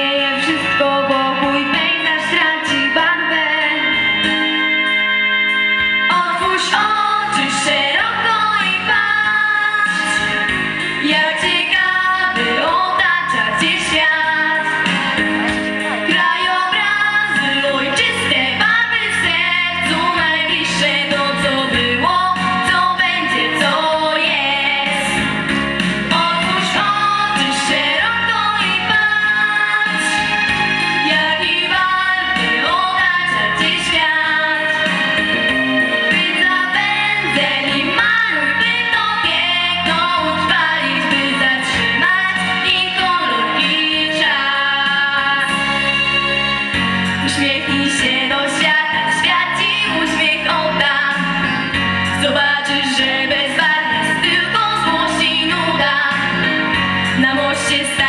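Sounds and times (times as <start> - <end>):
girls singing a duet: 0.0 - 4.4, 6.1 - 25.3, 26.1 - 35.5, 36.1 - 46.5, 47.1 - 58.0
backing track with steady beat: 0.0 - 58.0.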